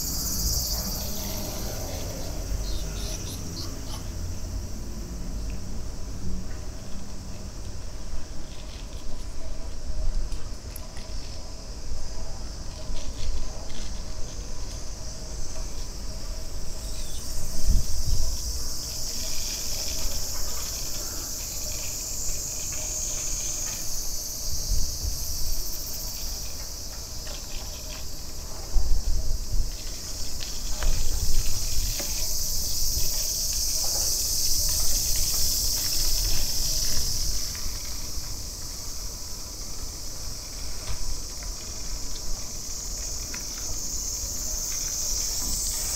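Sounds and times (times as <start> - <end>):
cicadas droning: 0.0 - 45.9.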